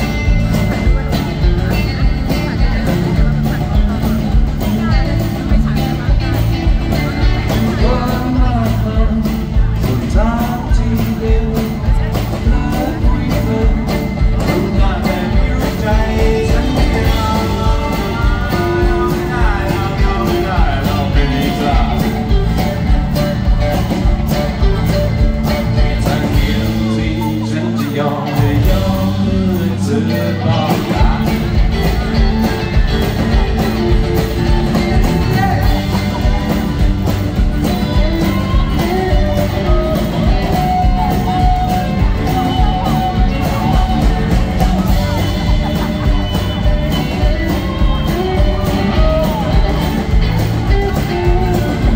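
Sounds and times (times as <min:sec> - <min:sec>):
bass guitar: 0:00.0 - 0:51.9
drum beat: 0:00.0 - 0:51.9
man singing: 0:00.0 - 0:51.9
strummed acoustic guitar: 0:00.0 - 0:51.9.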